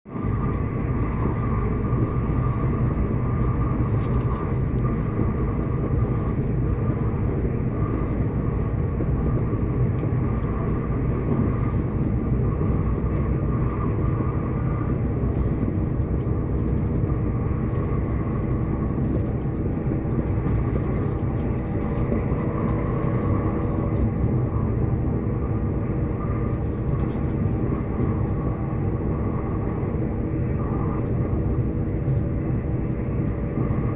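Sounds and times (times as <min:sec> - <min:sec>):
train rumbling: 0:00.1 - 0:33.9.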